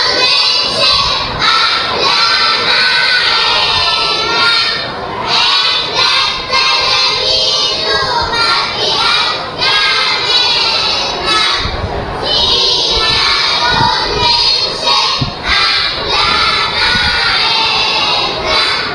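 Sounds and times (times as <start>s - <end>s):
children's choir singing: 0.0s - 18.9s.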